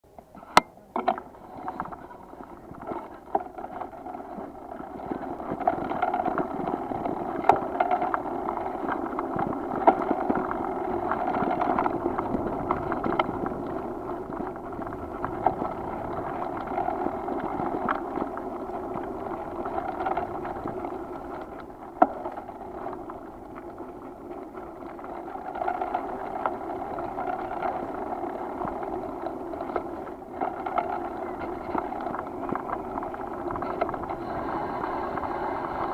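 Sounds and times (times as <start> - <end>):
bicycle tyres and frame noise: 0.0 - 35.9
bicycle knocks and rattles: 0.4 - 35.9.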